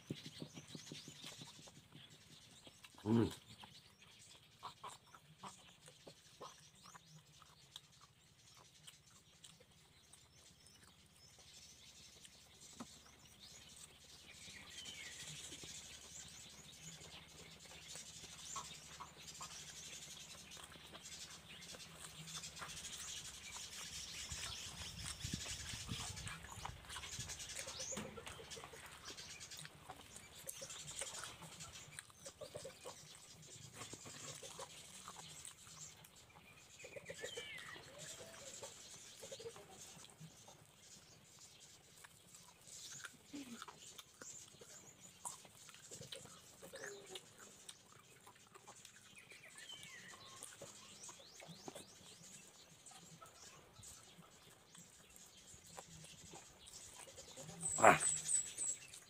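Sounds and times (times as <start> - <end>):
chewing and lip-smacking: 0.0 - 59.0.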